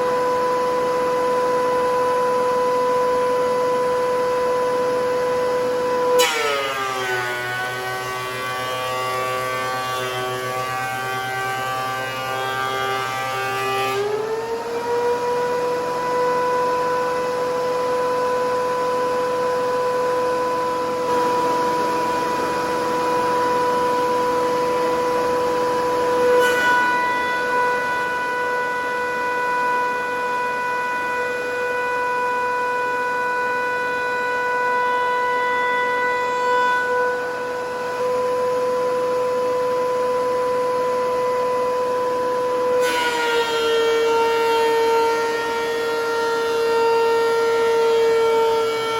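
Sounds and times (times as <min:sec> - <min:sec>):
thickness planer whining: 0:00.0 - 0:48.9.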